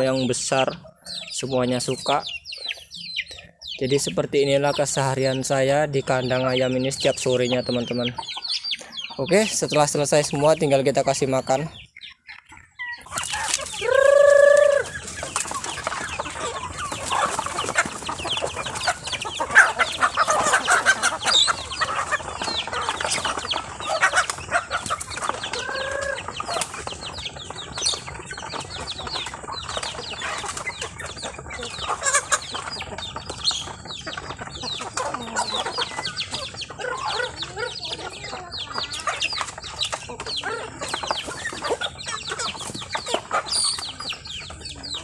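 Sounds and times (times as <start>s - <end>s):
chickens clucking: 0.0s - 45.0s
chickens pecking in wooden trough: 0.0s - 45.0s.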